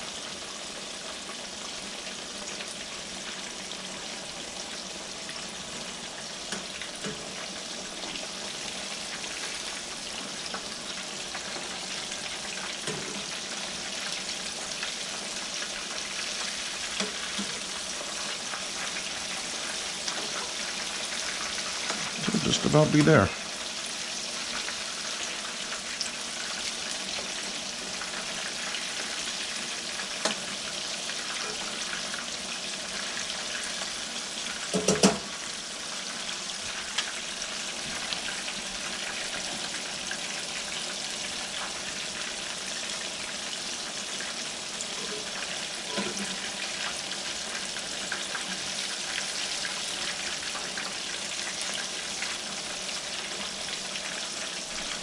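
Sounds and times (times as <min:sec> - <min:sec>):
fish deep-frying in oil: 0:00.0 - 0:55.0.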